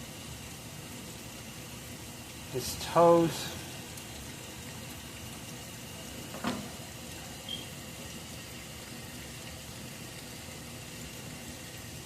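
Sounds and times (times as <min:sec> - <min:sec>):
steady background hiss: 0:00.0 - 0:11.3.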